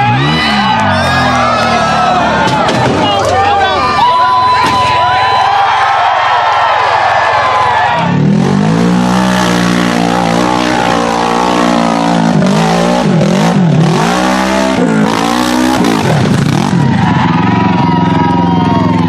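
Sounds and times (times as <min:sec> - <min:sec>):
off-road vehicle engine revving: 0:00.0 - 0:04.1, 0:07.6 - 0:19.0.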